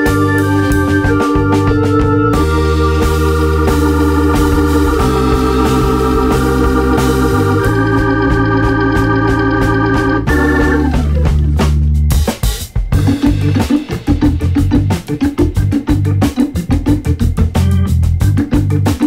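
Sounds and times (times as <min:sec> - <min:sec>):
background music of held chords: 0:00.0 - 0:19.0
steady bass: 0:00.0 - 0:19.0.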